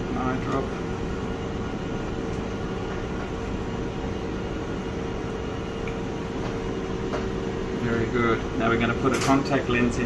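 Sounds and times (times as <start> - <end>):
machine hum and air noise: 0.0 - 10.0.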